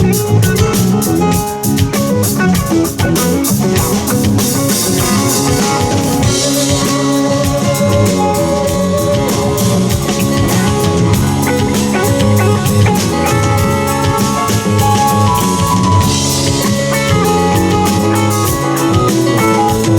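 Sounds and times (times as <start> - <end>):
bass guitar: 0.0 - 19.9
drum kit with steady beat: 0.0 - 19.9
electric guitar: 0.0 - 19.9
keyboards: 0.0 - 19.9.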